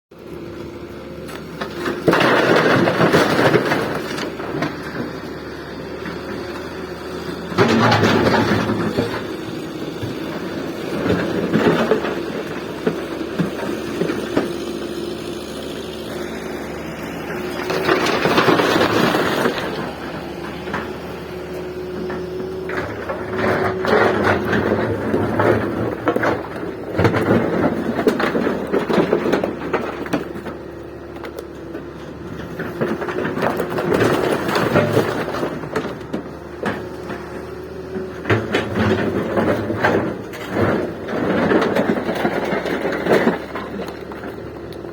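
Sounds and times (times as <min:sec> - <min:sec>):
excavator engine running: 0:00.1 - 0:44.9.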